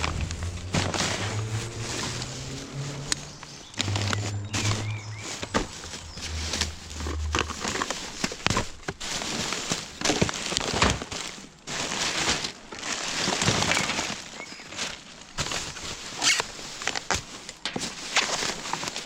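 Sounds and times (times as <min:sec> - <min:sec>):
bags and packaging rustling: 0:00.0 - 0:19.0.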